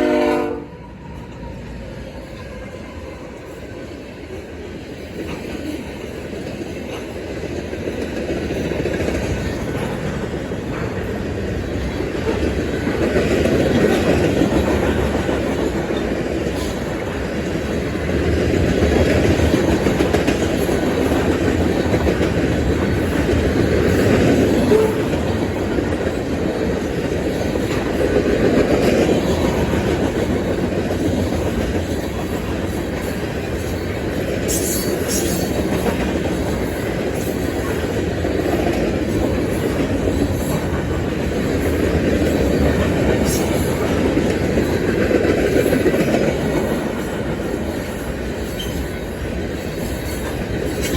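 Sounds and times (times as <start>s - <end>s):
freight train rumbling: 0.0s - 50.9s
wheels clacking over rail joints: 3.5s - 50.9s.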